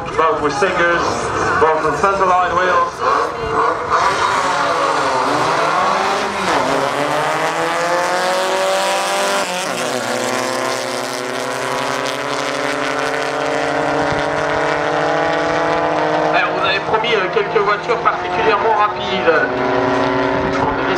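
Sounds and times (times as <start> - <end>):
racing car engine at full throttle: 0.0 - 20.9.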